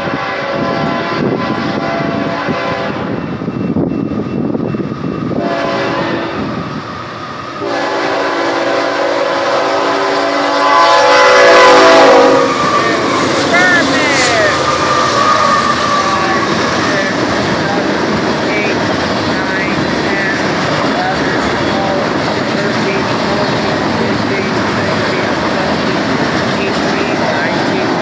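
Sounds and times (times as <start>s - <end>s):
locomotive air horn blasts: 0.0s - 3.1s, 5.4s - 6.4s, 7.6s - 17.9s, 18.5s - 28.0s
train rumble: 0.0s - 28.0s.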